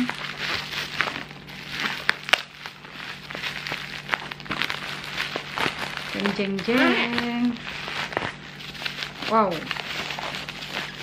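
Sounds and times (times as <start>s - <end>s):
plastic mailer crinkling: 0.0s - 11.0s
sharp crackles: 0.0s - 11.0s.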